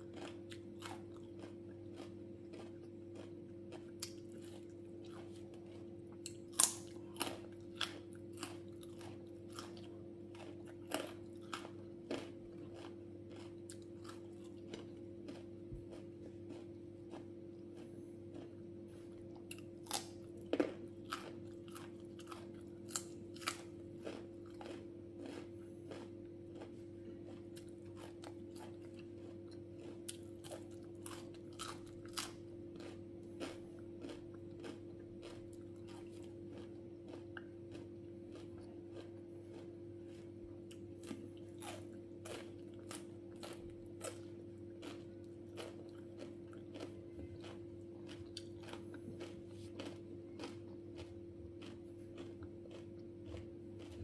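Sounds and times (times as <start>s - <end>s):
crunchy chewing of vegetables: 0.0s - 54.0s.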